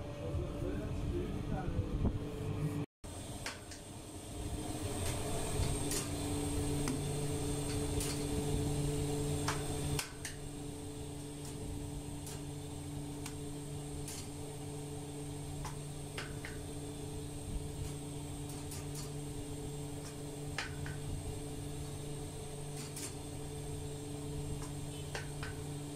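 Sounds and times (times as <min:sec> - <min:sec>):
electric motor hum: 0:02.0 - 0:25.9.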